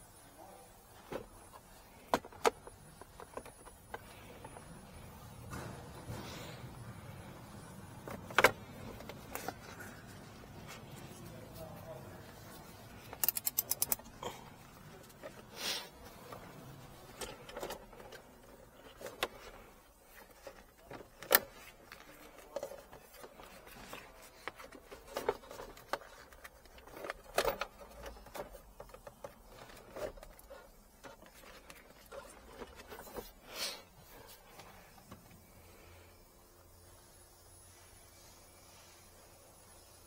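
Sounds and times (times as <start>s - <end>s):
hands handling plastic car trim: 0.9s - 6.2s, 6.8s - 35.2s.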